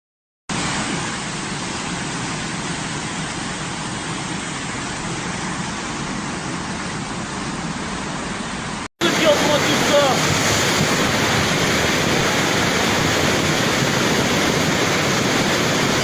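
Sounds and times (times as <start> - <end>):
rushing water: 0.5 - 16.0.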